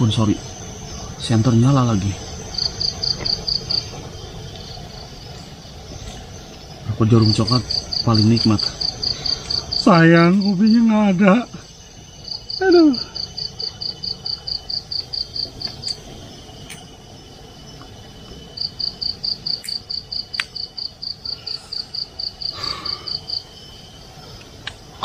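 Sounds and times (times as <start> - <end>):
cricket chirping: 0.0 - 25.0
high-pitched insect drone: 0.0 - 25.0.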